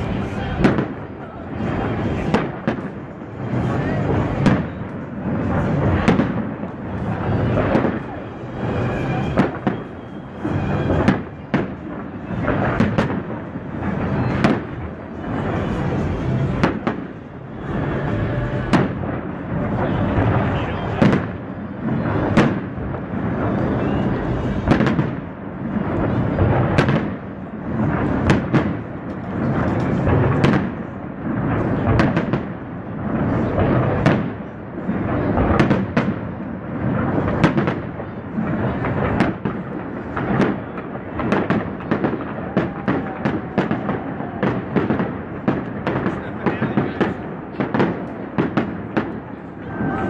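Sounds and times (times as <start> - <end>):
firework sharp cracks: 0.0 - 50.0
firework shells booming: 0.1 - 50.0.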